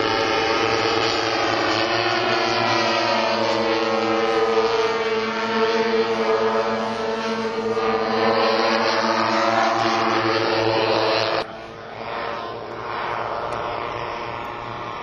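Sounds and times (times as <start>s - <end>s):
model plane engines buzzing: 0.0s - 15.0s.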